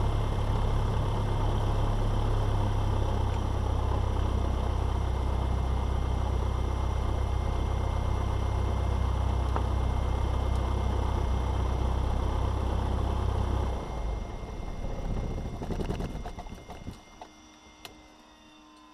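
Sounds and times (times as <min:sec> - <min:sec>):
airplane engine idling: 0:00.0 - 0:17.5.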